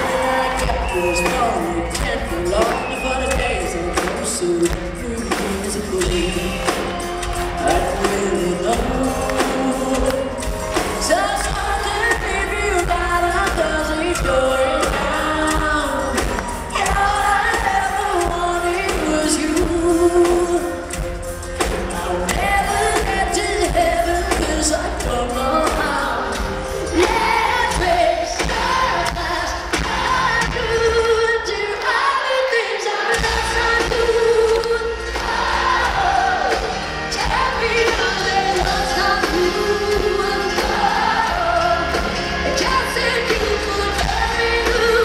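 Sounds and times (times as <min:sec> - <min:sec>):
live pop-rock band: 0:00.0 - 0:45.0
person singing: 0:00.0 - 0:45.0.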